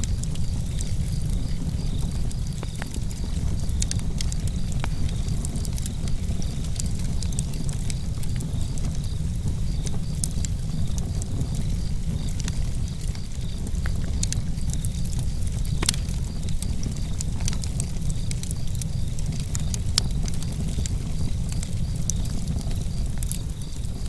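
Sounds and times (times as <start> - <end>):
campfire crackling and popping: 0.0 - 24.0
crickets chirping: 0.0 - 24.0
low rumble of flames and breeze: 0.0 - 24.0.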